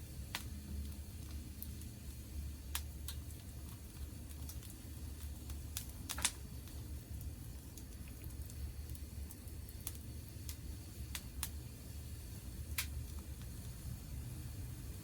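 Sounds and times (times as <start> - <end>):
campfire crackling pops: 0.3 - 11.7, 12.7 - 13.8.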